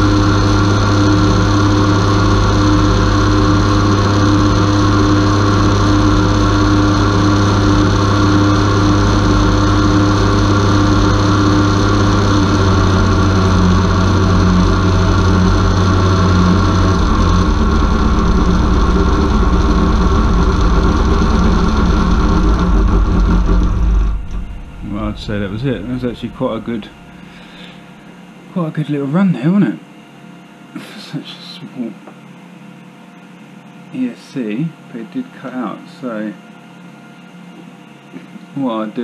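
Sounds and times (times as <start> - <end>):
electric motor drone: 0.0 - 39.0.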